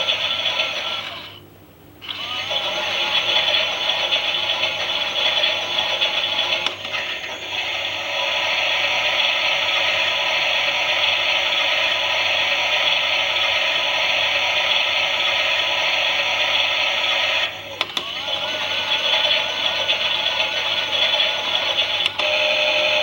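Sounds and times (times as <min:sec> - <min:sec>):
toy washing machine motor whirring: 0:00.0 - 0:01.4, 0:02.0 - 0:23.0.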